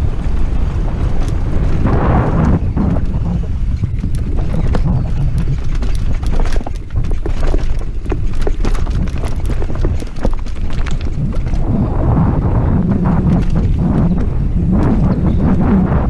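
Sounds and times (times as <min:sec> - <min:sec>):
bike rattling: 0:00.0 - 0:16.0
wind buffeting microphone: 0:00.0 - 0:16.0
bike knocking over rocks: 0:01.2 - 0:15.7.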